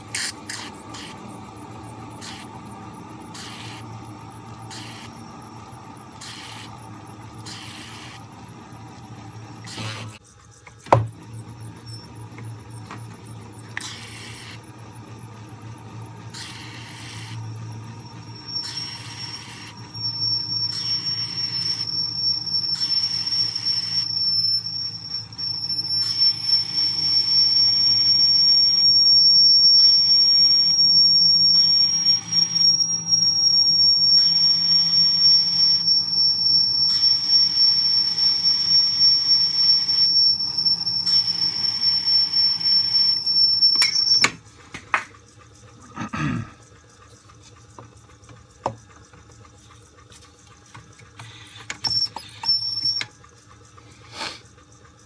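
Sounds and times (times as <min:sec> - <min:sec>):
lathe reamer high squeal: 0:00.0 - 0:01.4, 0:02.0 - 0:10.2, 0:11.3 - 0:44.3, 0:51.2 - 0:53.1.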